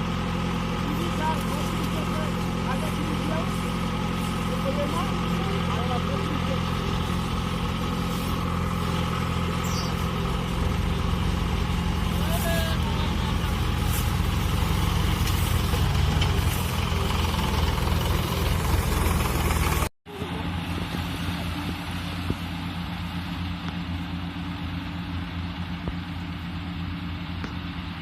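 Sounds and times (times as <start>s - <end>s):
combine harvester engine running: 0.0s - 28.0s.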